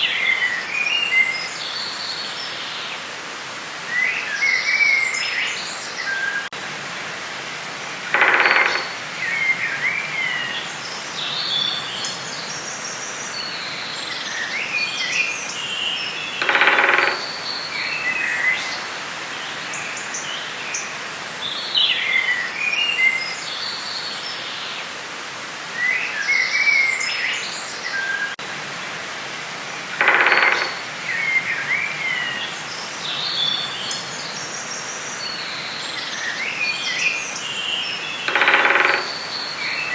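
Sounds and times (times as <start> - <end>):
steady background hiss: 0.0 - 39.9
songbirds chirping: 7.4 - 39.9.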